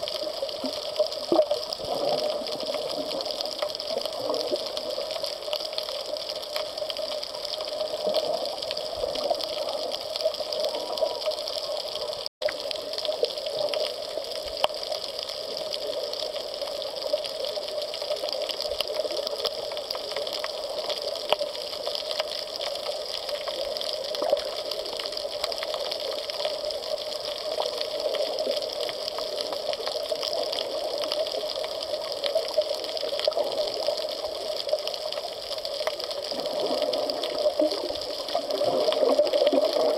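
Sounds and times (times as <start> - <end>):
fine crackling clicks: 0.0 - 39.9
underwater water noise: 0.0 - 39.9.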